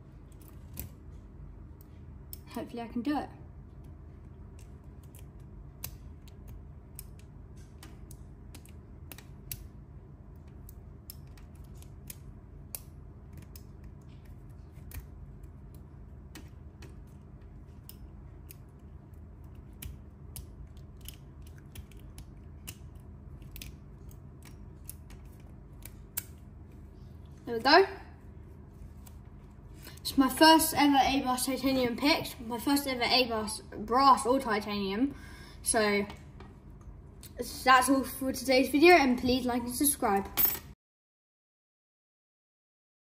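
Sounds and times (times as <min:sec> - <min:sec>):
faint background hum: 0:00.0 - 0:40.8.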